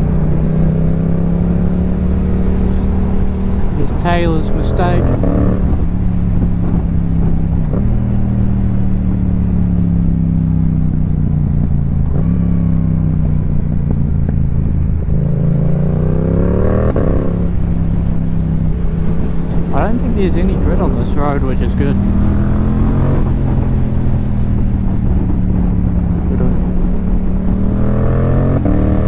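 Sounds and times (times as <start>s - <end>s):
motorcycle engine while riding: 0.0s - 29.0s.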